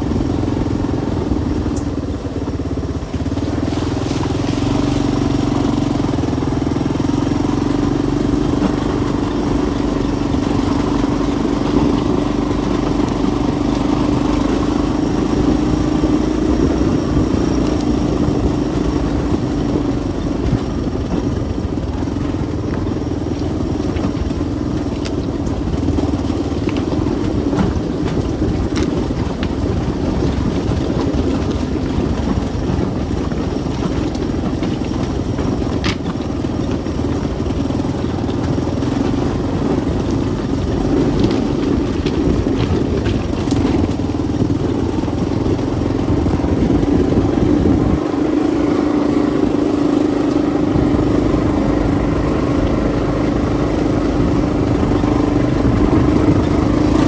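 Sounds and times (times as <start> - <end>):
engine droning hum: 0.0 - 57.0.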